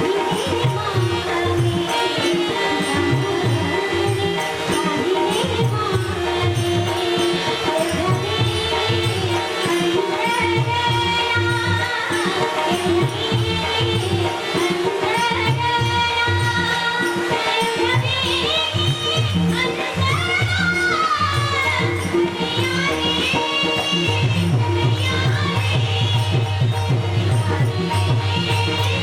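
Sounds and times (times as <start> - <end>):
girl singing: 0.0 - 29.0.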